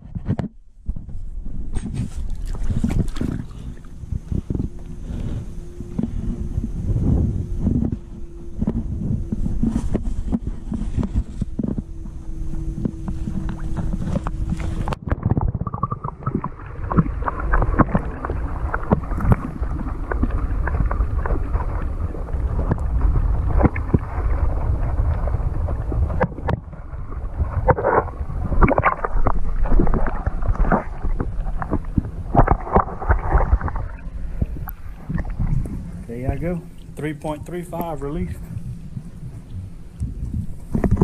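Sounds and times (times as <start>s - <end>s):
muffled underwater rumble and sloshing: 0.0s - 41.0s.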